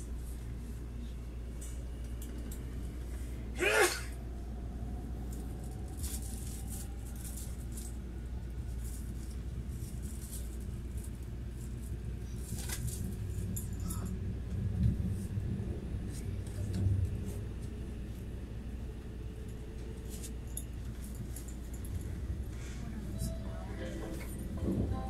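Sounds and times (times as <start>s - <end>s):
train interior rumble: 0.0s - 25.0s.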